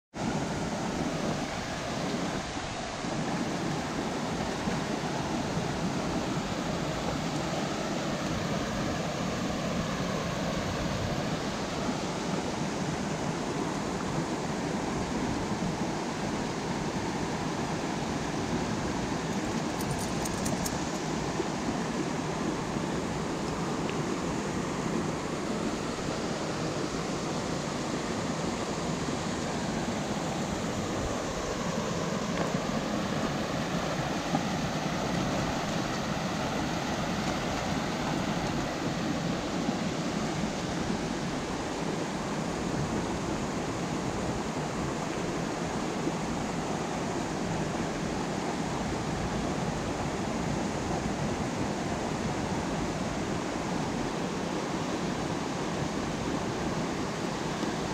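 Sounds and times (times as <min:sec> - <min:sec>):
water rushing over rocks: 0:00.2 - 0:57.9.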